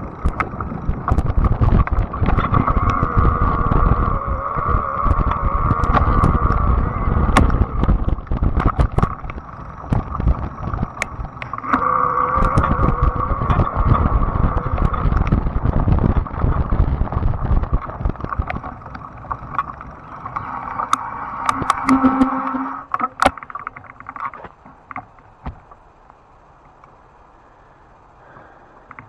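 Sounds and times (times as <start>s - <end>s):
gravel popping under tyres: 0.0s - 27.5s
electric bike drive whine: 0.0s - 29.0s
wind and tyre rumble: 0.0s - 29.0s.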